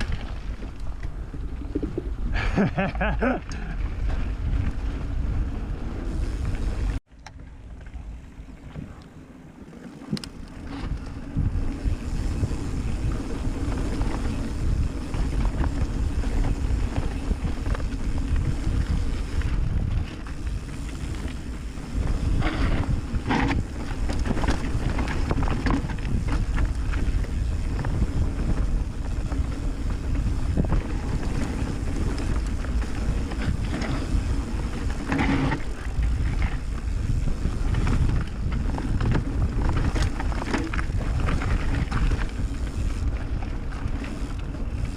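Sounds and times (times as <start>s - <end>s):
wind buffeting microphone: 0.0s - 7.0s, 10.2s - 44.9s
bike rattling over bumps: 0.0s - 44.9s
tyres rumbling on trail: 0.0s - 44.9s.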